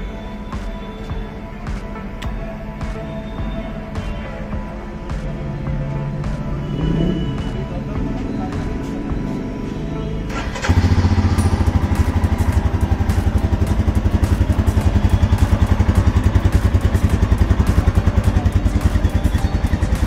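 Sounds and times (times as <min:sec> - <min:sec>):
motorcycle engine idling: 0:02.3 - 0:20.0.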